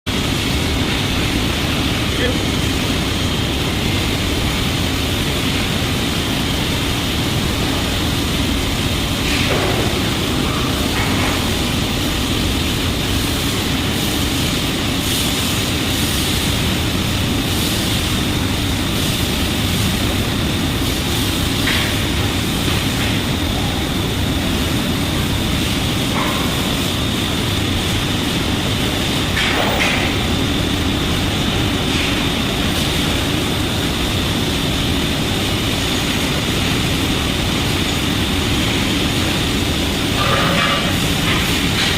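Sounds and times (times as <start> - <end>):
industrial machinery rumble: 0.1 - 41.9.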